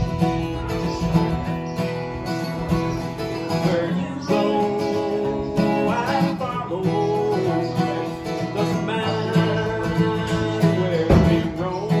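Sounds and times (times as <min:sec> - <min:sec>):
man singing: 0:00.0 - 0:02.0, 0:03.0 - 0:12.0
acoustic guitar: 0:00.0 - 0:12.0.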